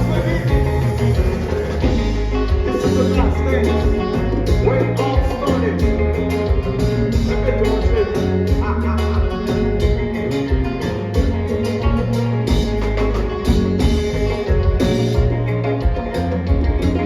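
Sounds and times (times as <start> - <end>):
bass line: 0.0 - 17.0
drum beat: 0.0 - 17.0
guitar: 0.0 - 17.0.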